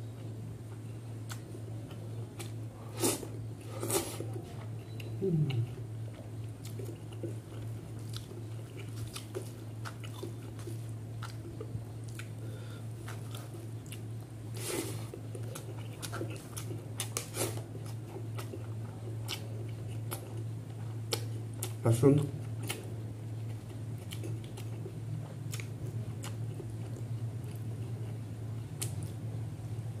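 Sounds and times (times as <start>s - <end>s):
steady low hum: 0.0s - 30.0s
person chewing food: 0.1s - 21.8s, 22.4s - 29.2s.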